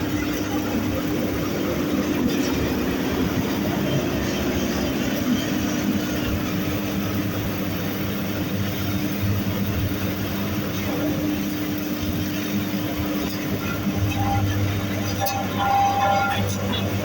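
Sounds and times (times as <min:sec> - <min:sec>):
hay grinder running: 0:00.0 - 0:17.0.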